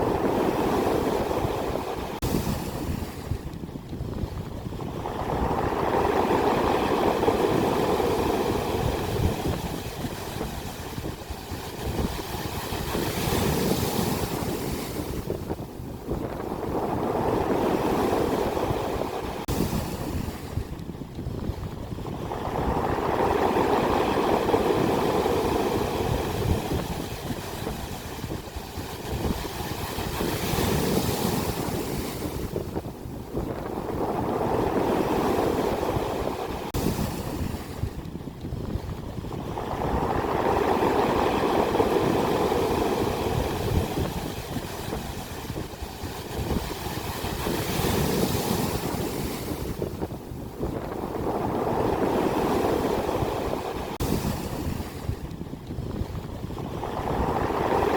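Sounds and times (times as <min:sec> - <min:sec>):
ocean waves breaking on shore: 0:00.0 - 0:57.9.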